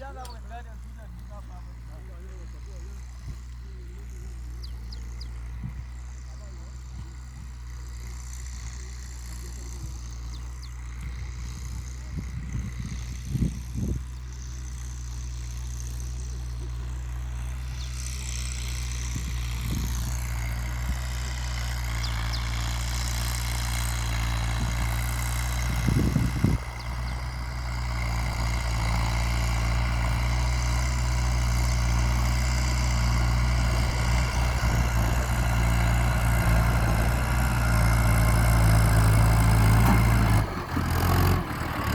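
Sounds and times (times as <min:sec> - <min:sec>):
engine clatter: 0:00.0 - 0:41.9
tractor diesel engine running: 0:00.0 - 0:41.9.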